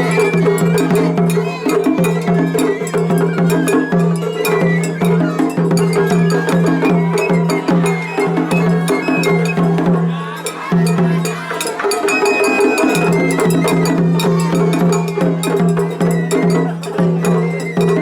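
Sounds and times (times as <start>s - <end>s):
shrill bamboo flute: 0.0s - 18.0s.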